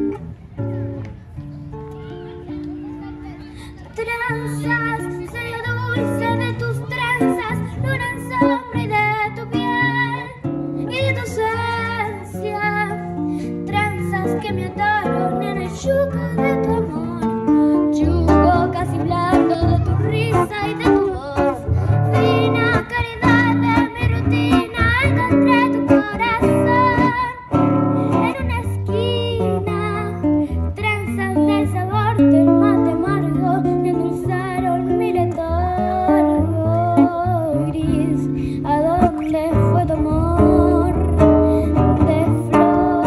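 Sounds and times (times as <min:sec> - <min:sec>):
acoustic guitar: 0:00.0 - 0:43.0
girl singing a tango: 0:00.0 - 0:43.0.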